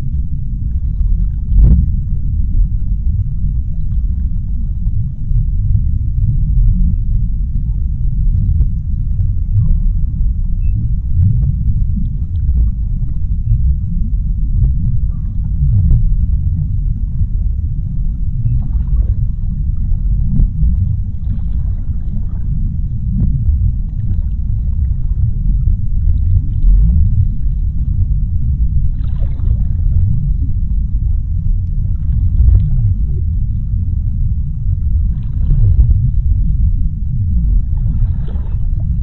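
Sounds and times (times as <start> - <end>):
deep underwater rumble: 0.0 - 39.0.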